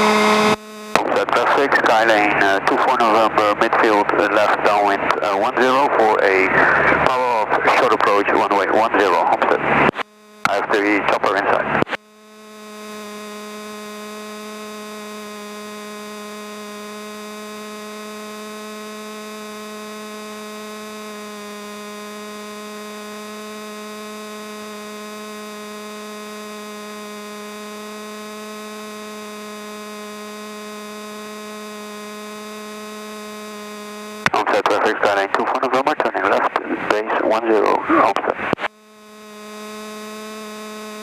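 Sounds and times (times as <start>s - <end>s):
steady electrical hum: 0.0s - 41.0s.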